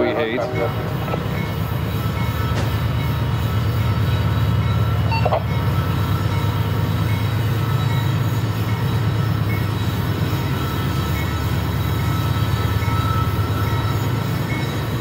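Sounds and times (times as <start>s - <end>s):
diesel locomotive engines rumbling: 0.0s - 15.0s.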